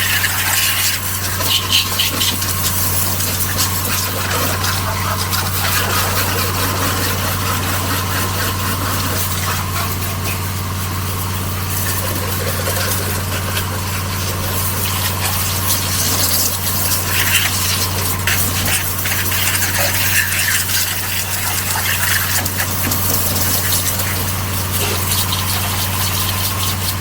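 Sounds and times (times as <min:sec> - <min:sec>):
pressure washer motor humming: 0:00.0 - 0:27.0
water jet hissing: 0:00.0 - 0:27.0.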